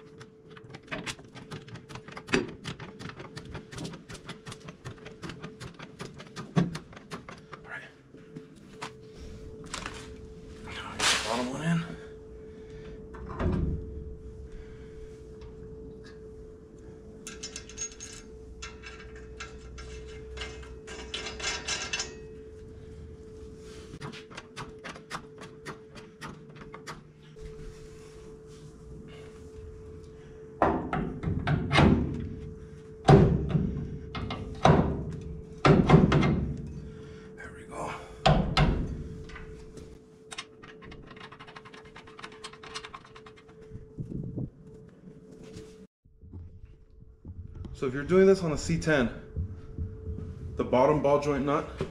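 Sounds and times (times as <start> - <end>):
steady hum: 0.0 - 51.9.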